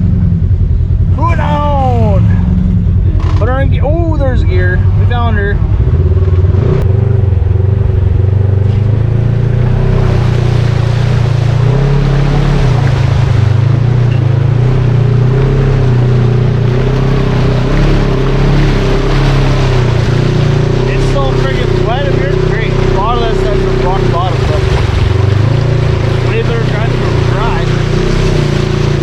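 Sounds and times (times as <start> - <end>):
constant rushing noise: 0.0 - 29.0
off-road vehicle engine running: 0.0 - 29.0.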